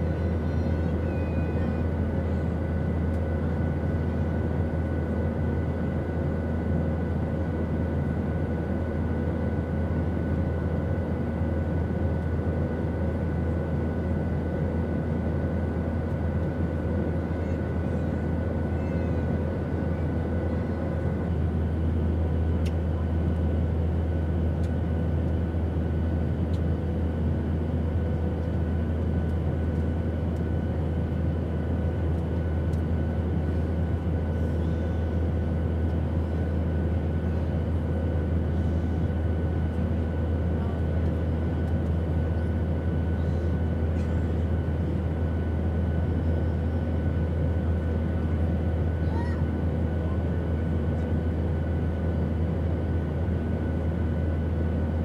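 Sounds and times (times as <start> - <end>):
airplane rumble in flight: 0.0 - 55.0.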